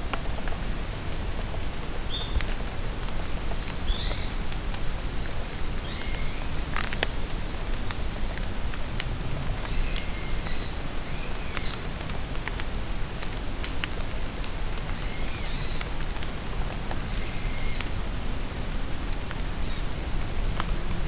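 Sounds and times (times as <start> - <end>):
rain in a forest: 0.0 - 21.0.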